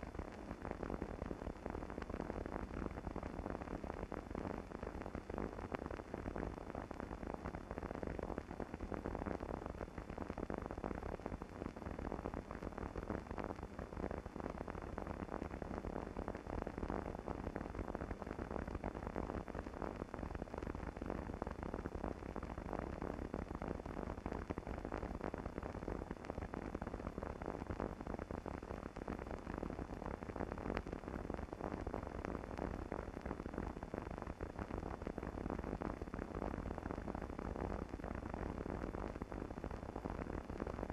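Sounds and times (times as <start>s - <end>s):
steady film hiss: 0.0s - 40.9s.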